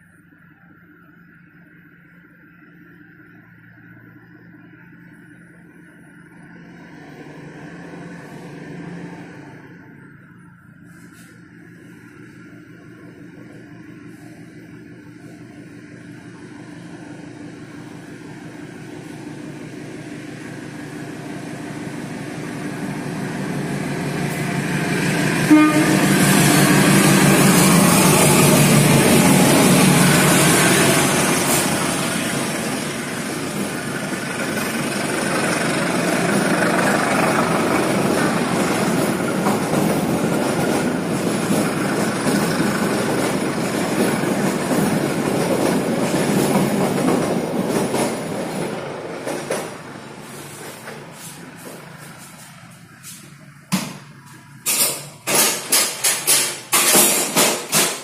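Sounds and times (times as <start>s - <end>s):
passenger train passing: 0.0s - 58.0s.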